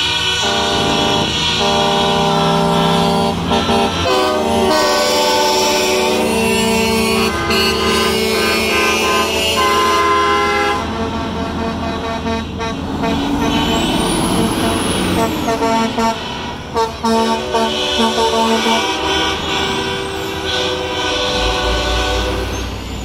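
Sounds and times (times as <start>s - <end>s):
truck air horns: 0.0s - 23.0s
truck engines running: 0.0s - 23.0s.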